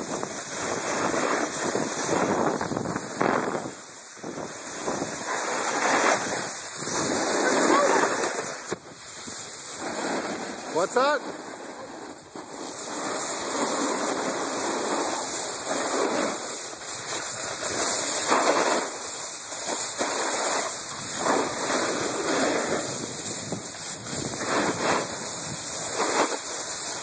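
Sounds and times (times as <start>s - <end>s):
wind on microphone: 0.0s - 17.8s, 20.8s - 26.2s
snowboard sliding over snow: 0.0s - 27.0s.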